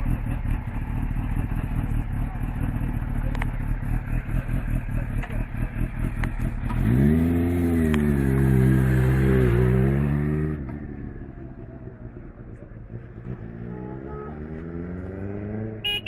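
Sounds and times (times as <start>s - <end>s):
motorcycle exhaust idling and revving: 0.0s - 16.0s.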